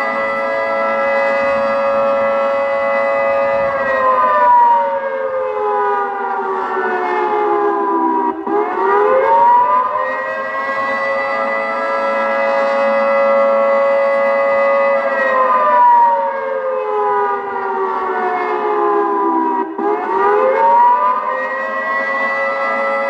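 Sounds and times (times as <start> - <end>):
electronic siren wailing: 0.0 - 23.0.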